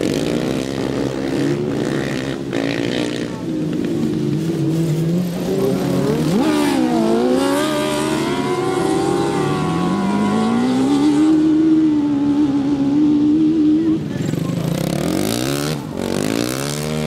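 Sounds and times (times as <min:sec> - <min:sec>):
lawnmower engines racing: 0:00.0 - 0:17.0.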